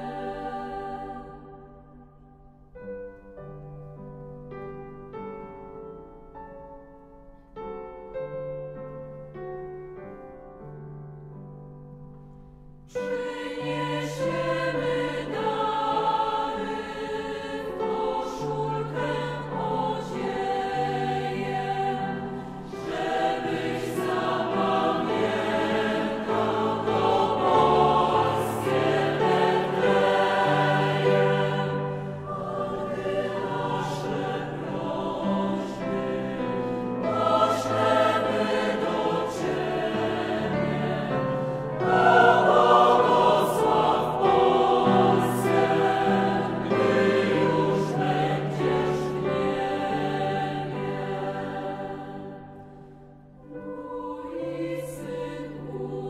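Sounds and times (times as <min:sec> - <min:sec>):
choir singing held notes: 0:00.0 - 0:01.9, 0:12.9 - 0:56.0.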